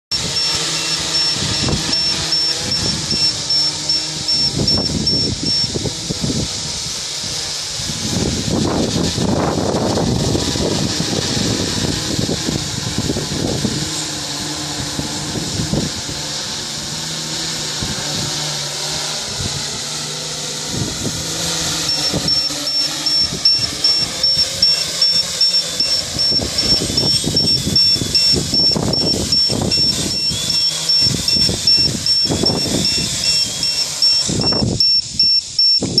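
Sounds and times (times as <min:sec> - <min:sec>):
drone propellers buzzing: 0:00.1 - 0:36.0
wind buffeting microphone: 0:04.2 - 0:35.2.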